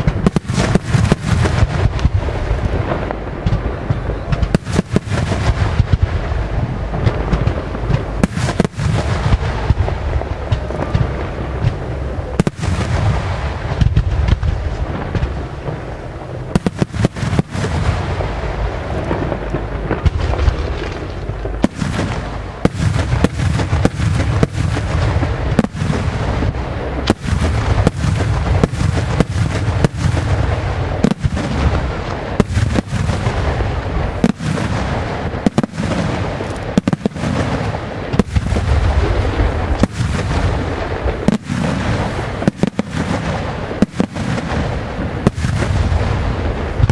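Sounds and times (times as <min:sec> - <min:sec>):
fireworks sharp bangs: 0:00.0 - 0:46.9
low booming: 0:00.0 - 0:46.9.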